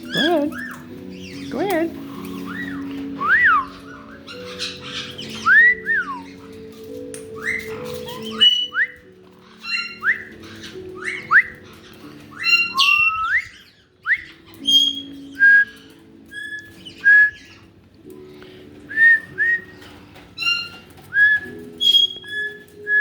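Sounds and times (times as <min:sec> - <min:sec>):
parrots whistling: 0:00.0 - 0:17.7, 0:18.6 - 0:23.0.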